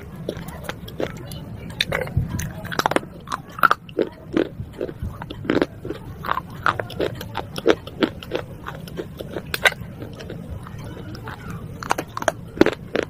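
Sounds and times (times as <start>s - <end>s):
person chewing crunchy shards: 0.0s - 13.0s.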